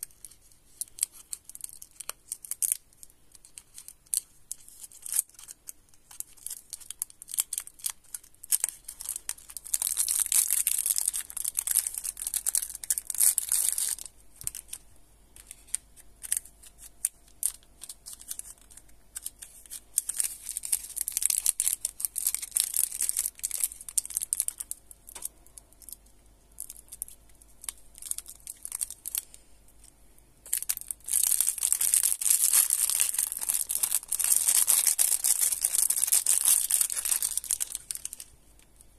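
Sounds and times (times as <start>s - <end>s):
plastic wrappers crinkling: 0.0s - 38.9s.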